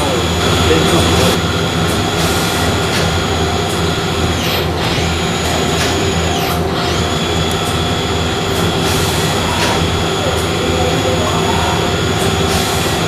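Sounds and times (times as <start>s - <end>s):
high spindle whine: 0.0s - 13.0s
machine hum: 0.0s - 13.0s.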